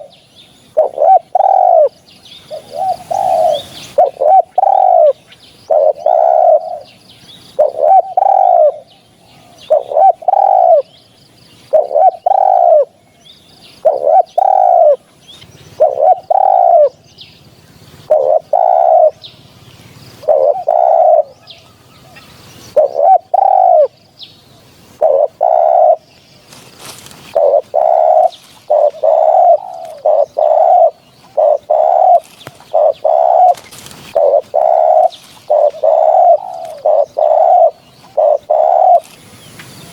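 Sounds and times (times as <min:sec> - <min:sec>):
dove cooing: 0:00.0 - 0:11.0, 0:11.6 - 0:13.0, 0:13.8 - 0:24.0, 0:24.6 - 0:39.9.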